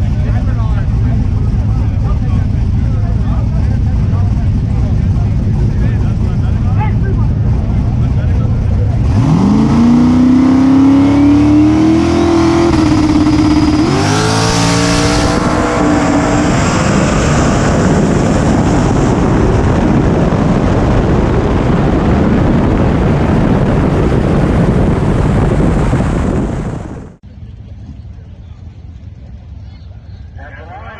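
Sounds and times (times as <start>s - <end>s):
race car engine revving: 0.0s - 27.2s
loud steady rushing noise: 0.0s - 27.4s.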